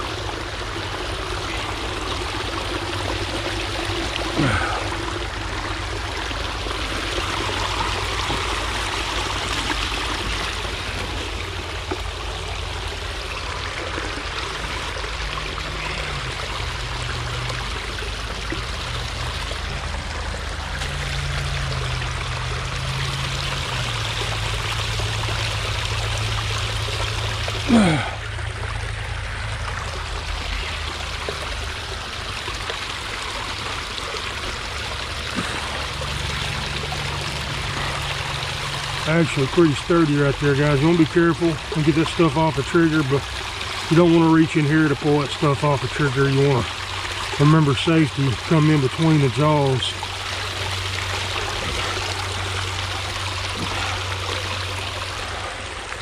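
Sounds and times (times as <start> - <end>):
creek water rushing: 0.0 - 56.0.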